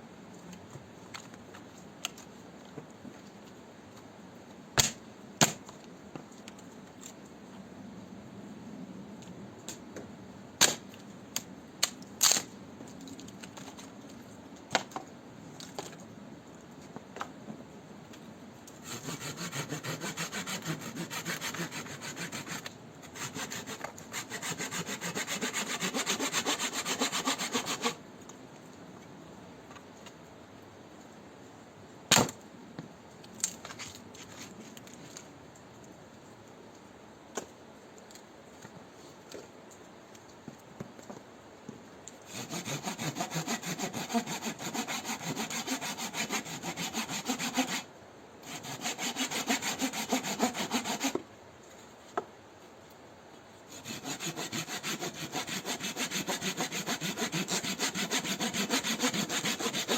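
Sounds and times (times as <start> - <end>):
low steady background noise: 0.0 - 59.9.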